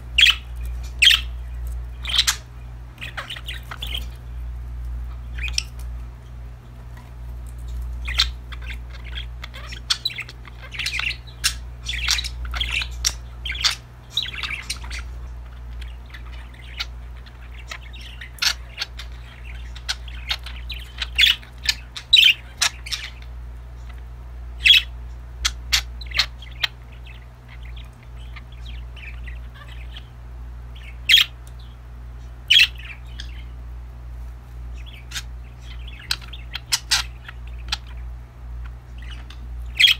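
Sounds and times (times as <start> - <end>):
sharp bird calls: 0.0 - 33.8, 34.6 - 39.9
budgerigars chirping and chattering: 0.0 - 39.9
steady low hum: 0.0 - 39.9.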